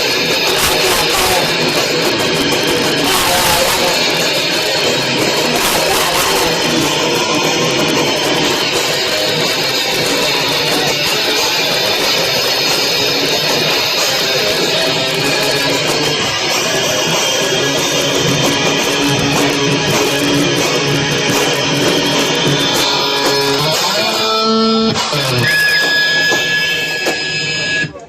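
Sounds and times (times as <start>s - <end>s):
punk band playing: 0.0s - 28.0s
steady high whine: 0.0s - 28.0s.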